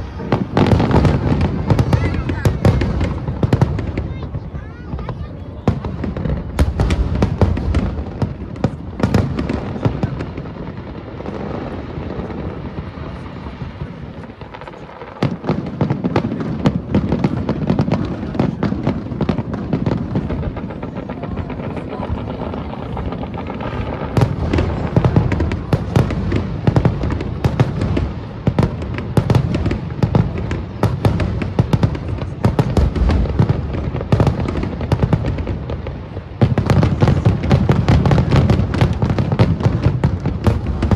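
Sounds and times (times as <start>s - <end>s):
fireworks bursting and crackling: 0.0s - 40.9s.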